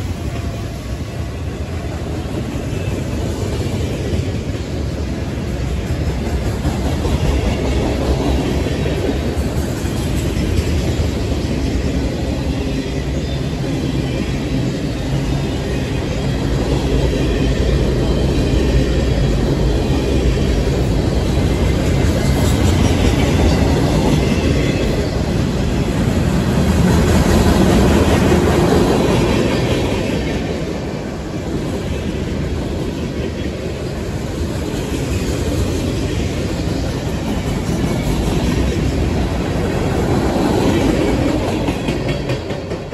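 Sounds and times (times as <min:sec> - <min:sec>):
freight train cars rolling: 0:00.0 - 0:42.9.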